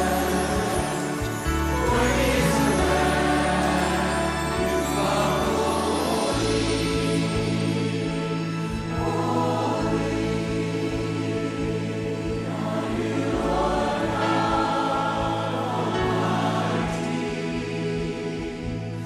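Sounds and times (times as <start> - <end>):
choir singing held notes: 0.0 - 19.0
low sustained accompaniment: 0.0 - 19.0.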